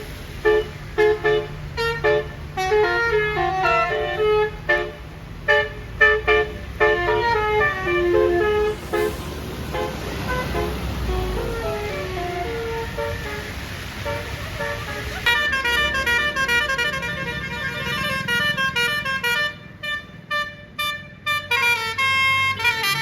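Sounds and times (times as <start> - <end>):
multi-tone bus air horn: 0.0 - 23.0.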